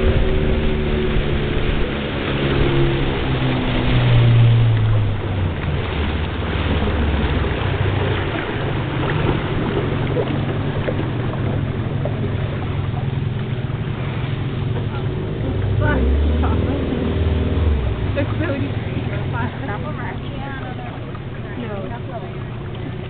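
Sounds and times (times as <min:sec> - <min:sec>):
motorboat engine running: 0:00.0 - 0:23.0
wind and water rushing: 0:00.0 - 0:23.0.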